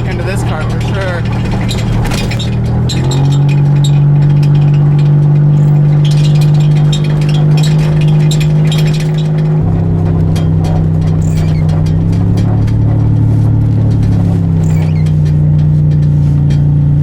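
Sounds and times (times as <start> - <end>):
car engine running: 0.0 - 17.0
light rattling: 0.0 - 17.0.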